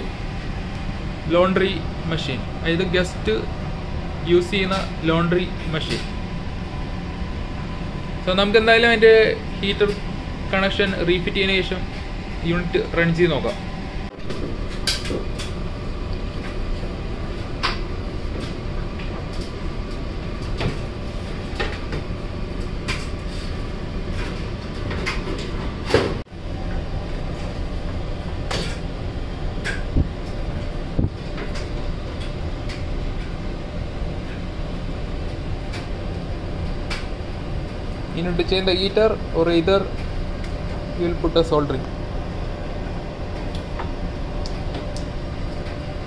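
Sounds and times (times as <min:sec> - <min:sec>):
steady background hum: 0:00.0 - 0:46.0.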